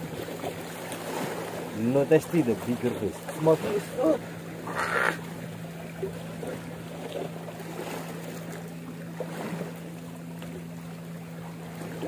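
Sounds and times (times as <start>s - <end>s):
low motor drone: 0.0s - 12.0s
sea noise: 0.0s - 12.0s
wind: 0.0s - 12.0s.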